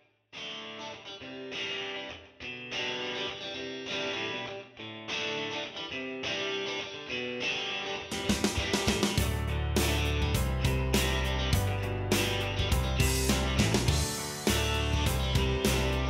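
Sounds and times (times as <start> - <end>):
plucked and strummed guitar music: 0.3 - 16.0.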